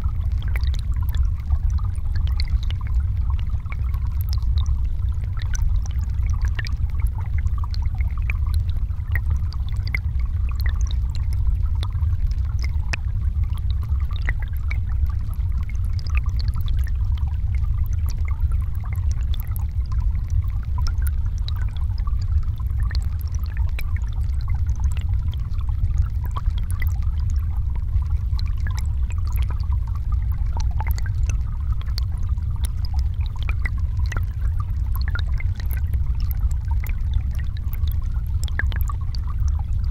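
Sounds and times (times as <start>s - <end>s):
small scattered ticks and clicks: 0.0s - 39.9s
underwater rumble of flowing water: 0.0s - 39.9s.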